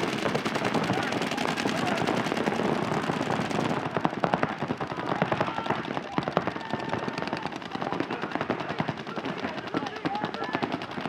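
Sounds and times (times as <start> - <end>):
paintball markers firing rapidly: 0.0 - 11.0.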